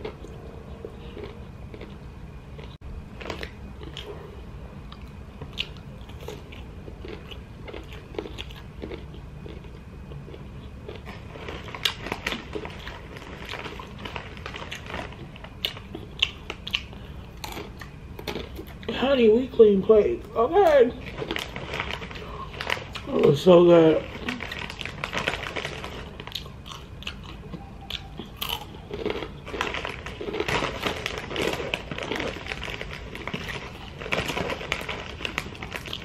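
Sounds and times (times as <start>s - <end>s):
person chewing: 0.0s - 18.9s, 24.1s - 36.0s
chips crunching: 4.9s - 36.0s.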